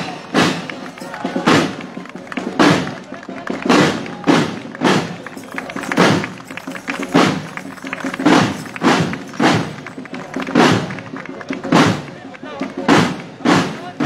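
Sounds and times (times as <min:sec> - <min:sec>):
snare drums playing march cadence: 0:00.0 - 0:14.0.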